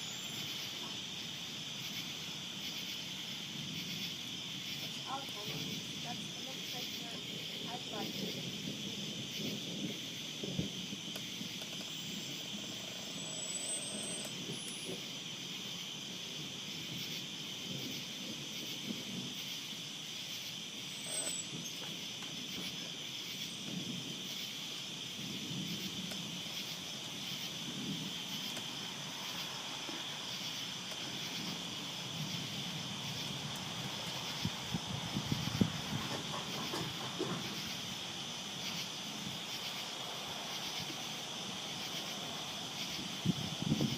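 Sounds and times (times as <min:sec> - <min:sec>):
night insects chirring: 0:00.0 - 0:43.9.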